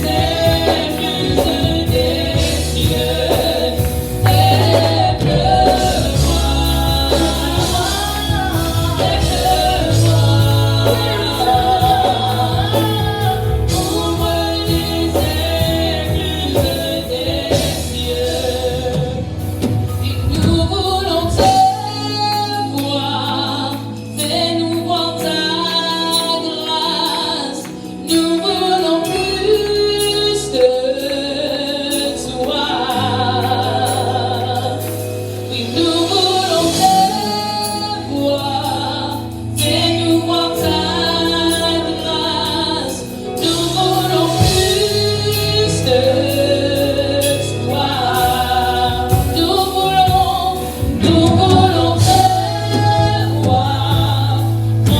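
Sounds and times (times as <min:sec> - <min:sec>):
choir singing: 0:00.0 - 0:21.9, 0:30.6 - 0:54.9
held bass chords: 0:00.0 - 0:24.2, 0:33.0 - 0:54.9
singers with vibrato: 0:00.0 - 0:54.9.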